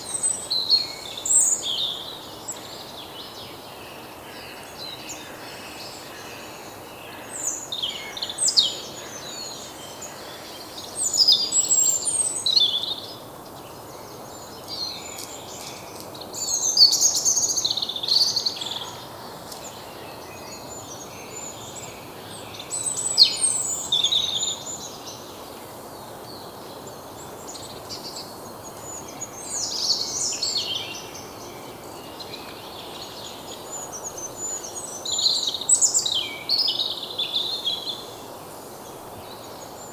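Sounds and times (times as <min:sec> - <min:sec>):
outdoor background noise: 0:00.0 - 0:39.9
songbirds chirping and trilling: 0:00.0 - 0:39.9.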